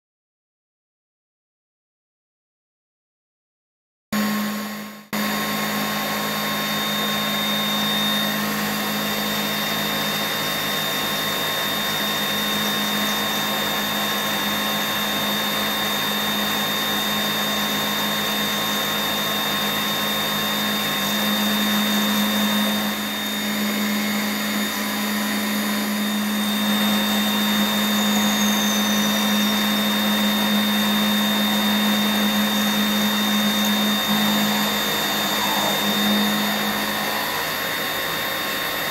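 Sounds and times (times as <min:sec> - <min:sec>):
milling machine spindle hum: 0:04.2 - 0:38.9
end mill cutting metal: 0:05.2 - 0:38.9.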